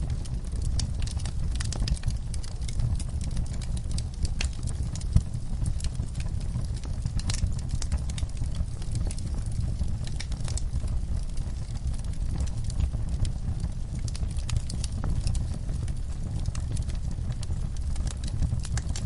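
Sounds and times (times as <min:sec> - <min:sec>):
flames rumbling in fireplace: 0:00.0 - 0:19.0
logs crackling and popping: 0:00.0 - 0:19.0.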